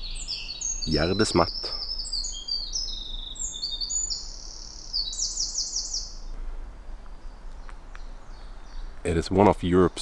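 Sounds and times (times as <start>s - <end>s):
wren singing: 0.0s - 6.3s, 7.6s - 10.0s.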